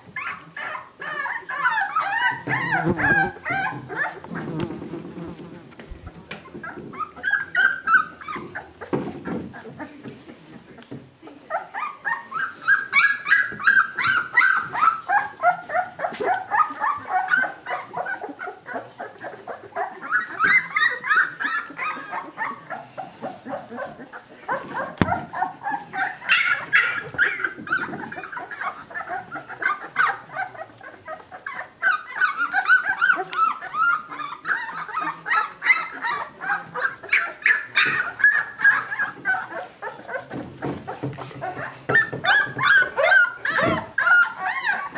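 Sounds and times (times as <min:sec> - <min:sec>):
puppies whining and yelping: 0:00.0 - 0:05.0, 0:06.0 - 0:10.8, 0:11.4 - 0:44.9.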